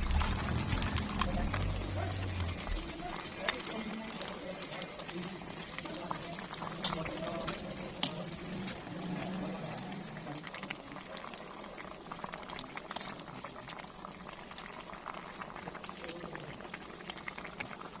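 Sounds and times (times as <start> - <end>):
stew bubbling as it boils: 0.0 - 18.0.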